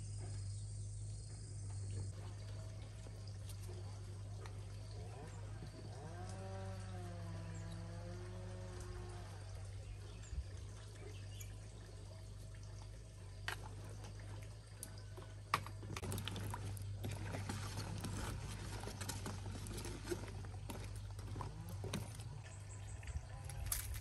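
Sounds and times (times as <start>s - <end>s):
small splashes in water: 2.1s - 24.0s.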